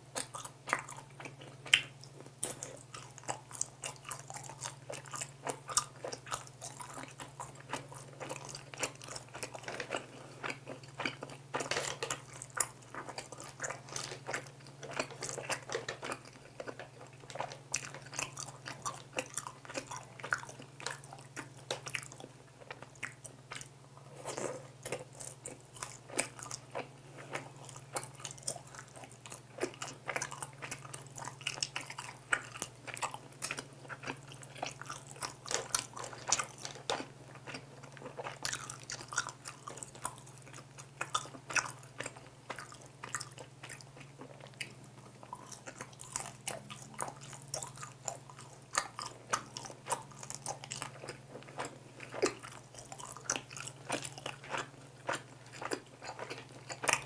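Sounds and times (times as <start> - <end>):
crunching fried chicken: 0.0 - 57.0
faint low hum: 0.0 - 57.0
wet chewing: 0.1 - 57.0.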